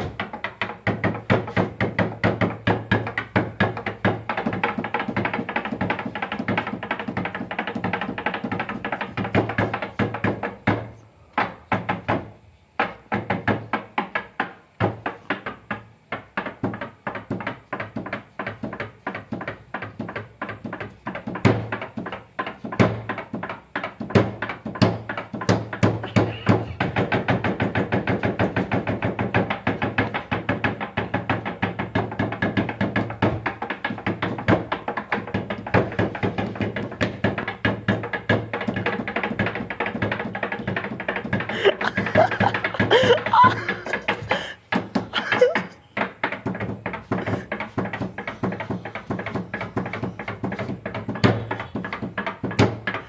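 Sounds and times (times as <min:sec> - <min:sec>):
hands drumming on tabletop: 0:00.0 - 0:53.0.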